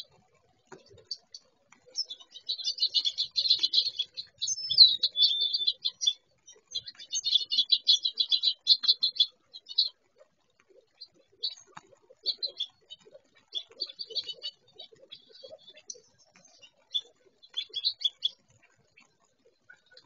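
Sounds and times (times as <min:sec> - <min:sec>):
songbirds chipping and twittering: 0:00.0 - 0:20.0.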